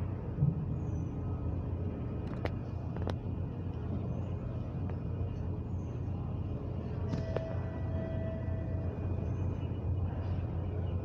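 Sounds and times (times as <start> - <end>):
low rumble of train station: 0.0 - 11.0.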